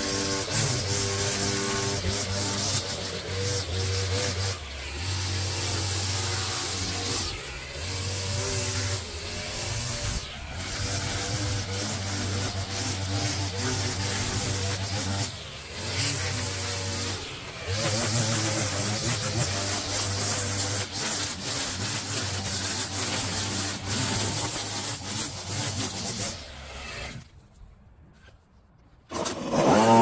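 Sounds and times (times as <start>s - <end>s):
small petrol engine running: 0.0s - 26.3s.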